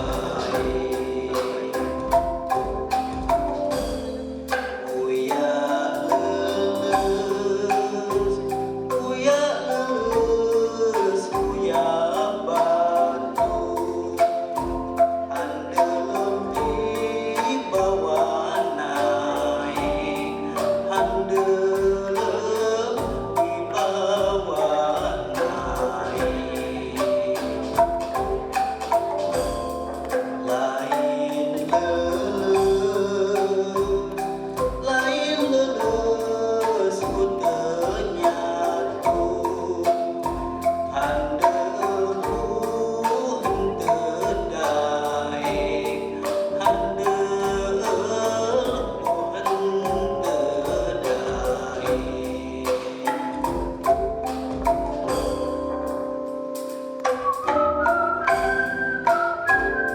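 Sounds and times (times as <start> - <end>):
bamboo slats struck rhythmically: 0.0 - 55.9, 56.6 - 59.9
low beat: 0.0 - 59.9.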